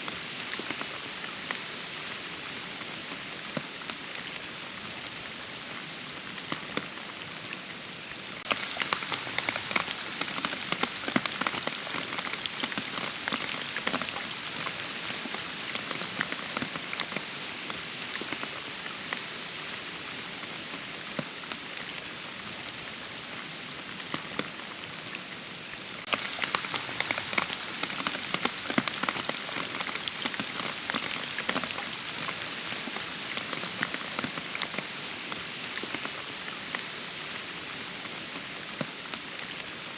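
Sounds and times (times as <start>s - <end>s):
rain falling: 0.0s - 39.9s
raindrops pattering: 0.0s - 39.9s.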